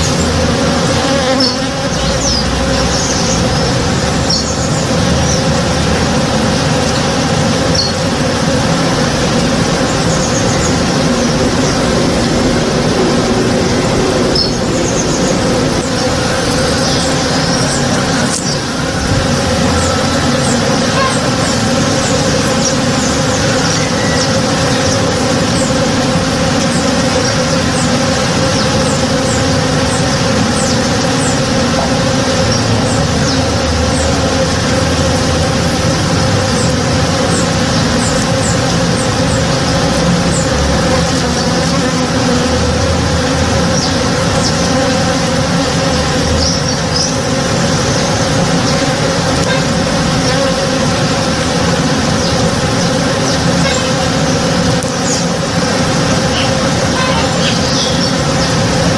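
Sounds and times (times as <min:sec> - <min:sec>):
bees buzzing: 0:00.0 - 0:58.9.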